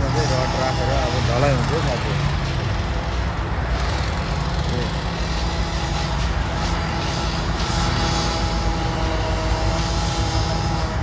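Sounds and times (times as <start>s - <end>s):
engine rumbling: 0.0s - 11.0s
faint steady hum: 0.0s - 11.0s.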